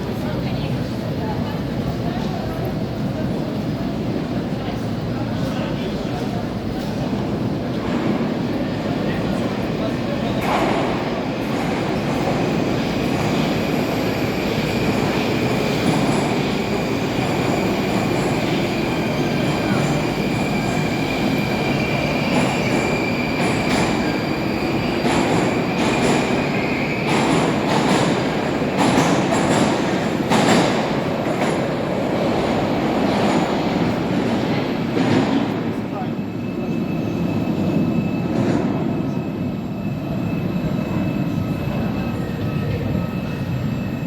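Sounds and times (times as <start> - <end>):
train rumbling in tunnel: 0.0 - 44.0.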